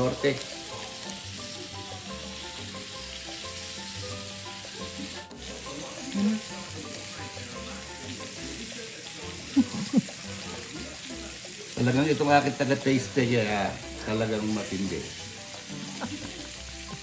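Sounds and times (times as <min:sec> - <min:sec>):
food sizzling in a pan: 0:00.0 - 0:17.0
quiet background music: 0:00.0 - 0:17.0.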